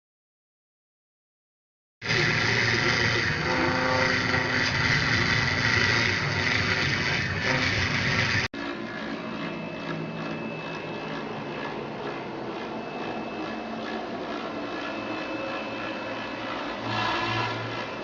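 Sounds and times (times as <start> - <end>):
bit cutting foam: 2.0 - 18.0
router spindle high whine: 2.0 - 18.0.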